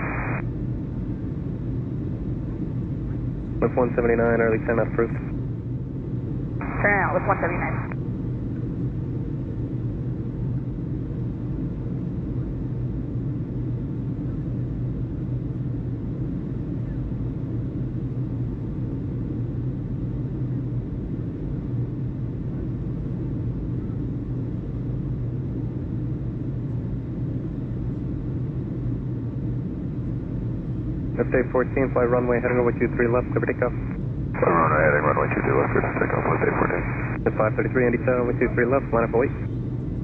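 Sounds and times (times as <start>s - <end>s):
steady low rumble with hum: 0.0s - 40.0s.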